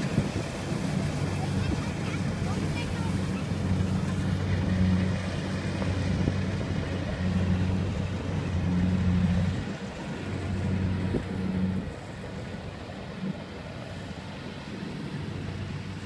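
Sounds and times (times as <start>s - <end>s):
combine harvester engine droning: 0.0s - 16.0s.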